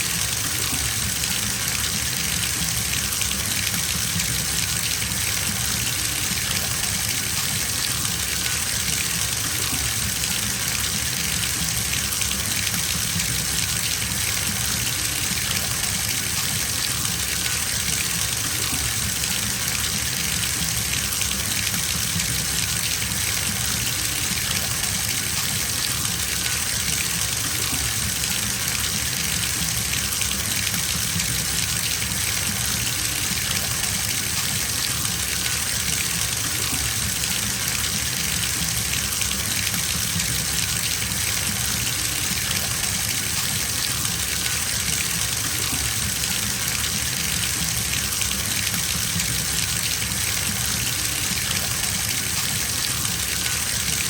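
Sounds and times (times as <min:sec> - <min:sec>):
tap water filling bathtub: 0:00.0 - 0:54.0.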